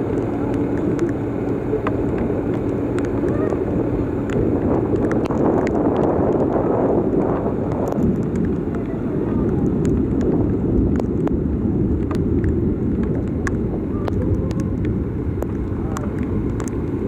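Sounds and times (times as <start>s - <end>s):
heavy rain: 0.0s - 17.0s
vehicle rumble: 0.0s - 17.0s.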